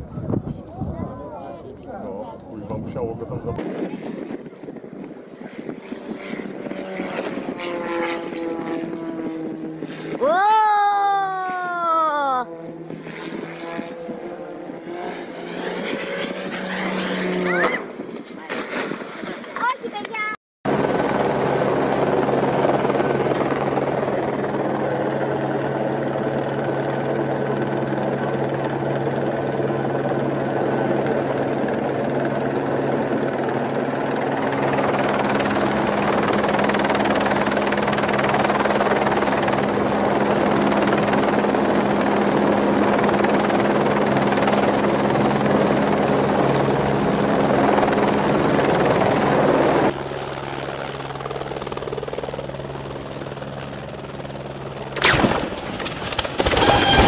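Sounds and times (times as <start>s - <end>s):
helicopter engine and rotor drone: 0.0s - 18.1s, 20.7s - 57.0s.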